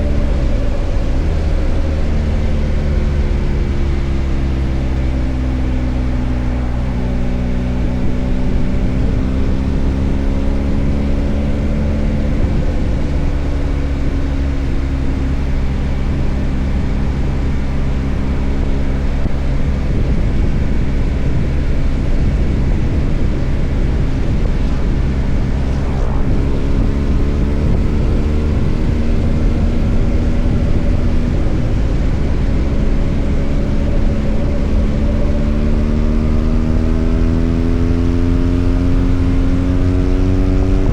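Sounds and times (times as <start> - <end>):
motorcycle engine: 0.0 - 40.9
wind and road noise: 0.0 - 40.9.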